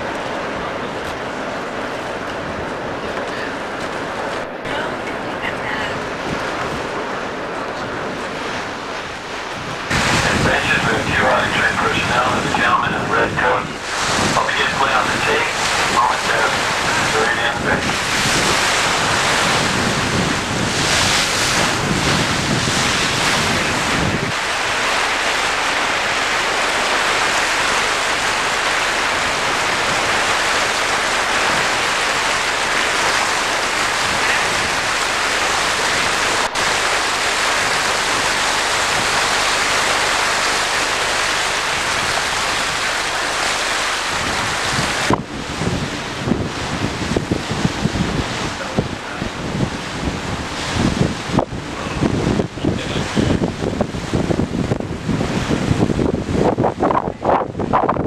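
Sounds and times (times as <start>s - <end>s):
wind buffeting microphone: 0.0s - 40.4s, 41.4s - 58.0s
rushing water: 0.0s - 58.0s
wind: 0.0s - 58.0s.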